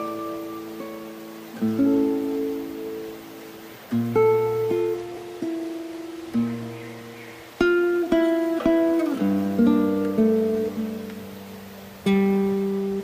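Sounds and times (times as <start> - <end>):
acoustic guitar plucked notes: 0.0 - 13.0.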